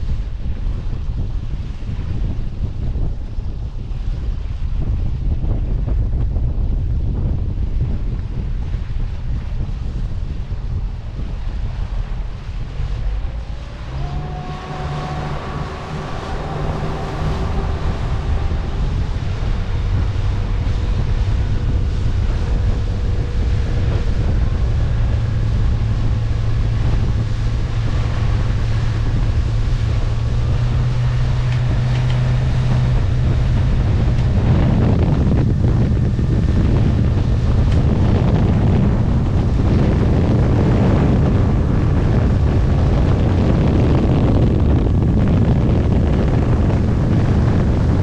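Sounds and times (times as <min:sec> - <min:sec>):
steady low hum: 0:00.0 - 0:48.0
wind buffeting microphone: 0:00.0 - 0:48.0.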